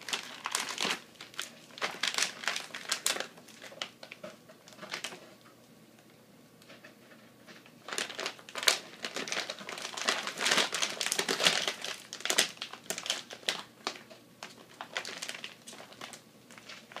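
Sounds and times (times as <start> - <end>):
plastic bag crinkling: 0.0 - 5.4, 7.8 - 17.0.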